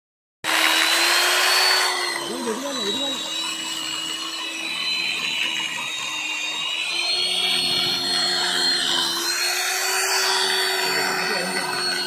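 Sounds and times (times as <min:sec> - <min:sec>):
motor whine: 0:00.5 - 0:12.0.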